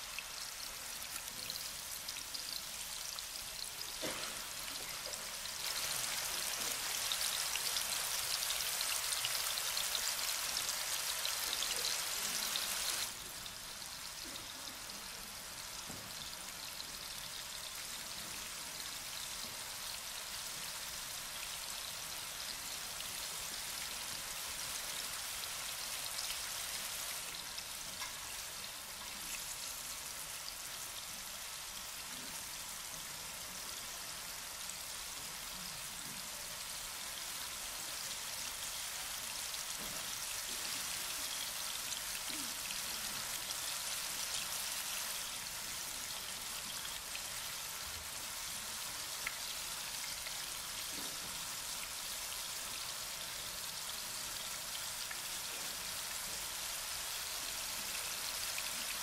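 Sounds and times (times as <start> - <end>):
dense rain patter: 0.0 - 59.0.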